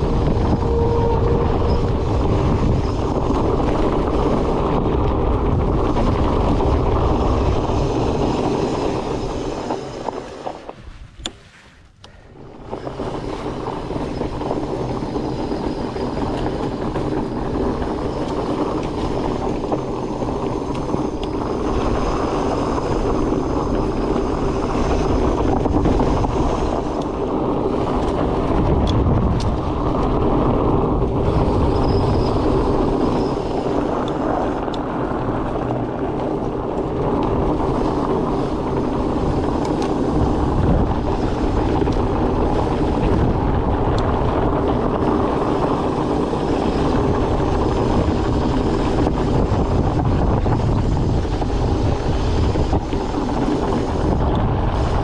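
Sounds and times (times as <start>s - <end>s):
bike tyres rumbling on trail: 0.0s - 55.0s
wind on microphone: 0.0s - 55.0s.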